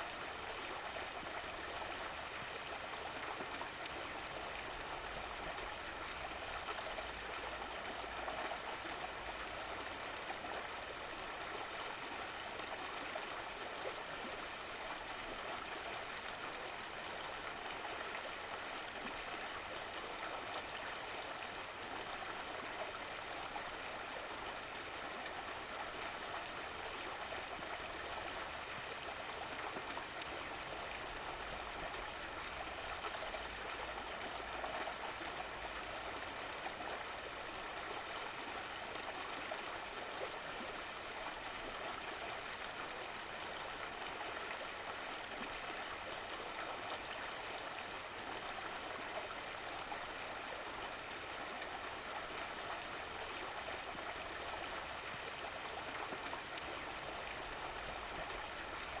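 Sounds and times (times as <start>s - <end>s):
stream water flowing and gurgling: 0.0s - 59.0s.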